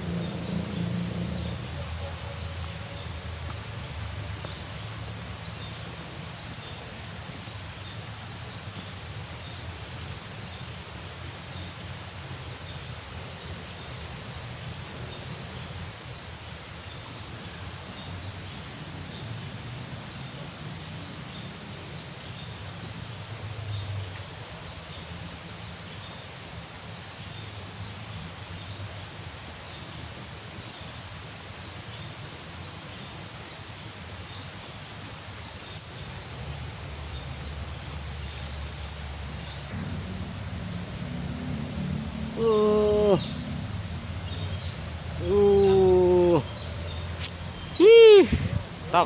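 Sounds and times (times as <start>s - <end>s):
river rushing: 0.0s - 49.0s.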